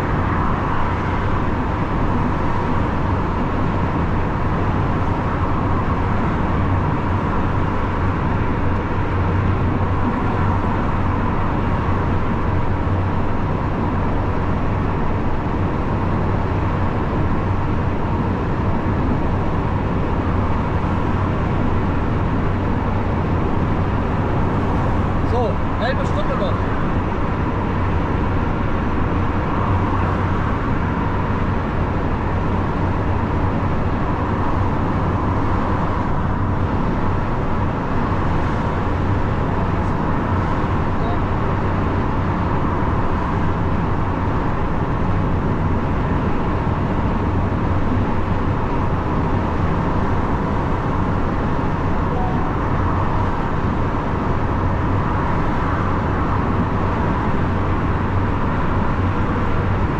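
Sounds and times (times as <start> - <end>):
lorry engine drone: 0.0 - 59.9.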